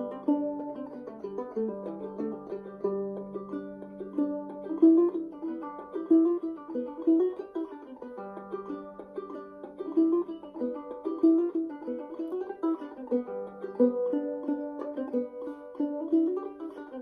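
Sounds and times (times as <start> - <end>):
plucked string instrument tune: 0.0 - 17.0.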